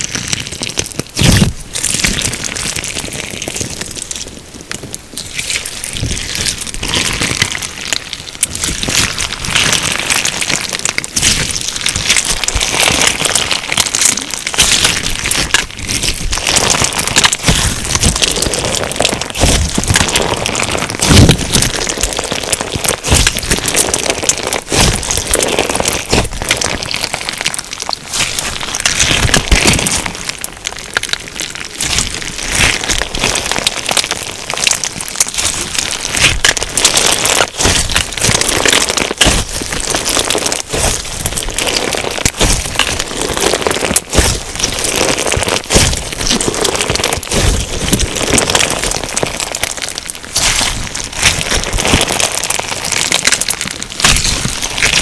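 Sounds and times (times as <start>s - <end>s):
crunchy slime crackling: 0.0s - 55.0s.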